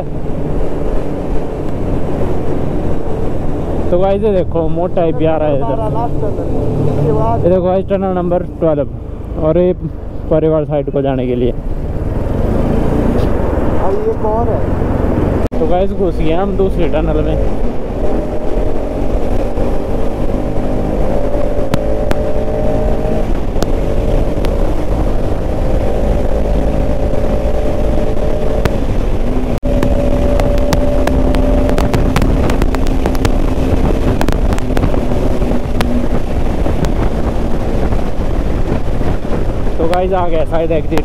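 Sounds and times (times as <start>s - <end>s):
wind rush on microphone: 0.0s - 10.3s, 11.5s - 41.0s
motorcycle engine cruising: 0.0s - 41.0s.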